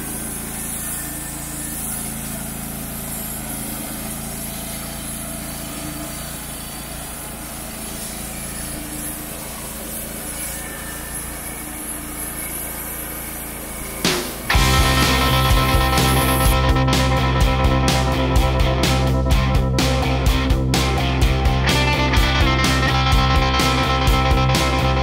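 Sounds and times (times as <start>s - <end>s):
band sawmill cutting wood: 0.0s - 25.0s.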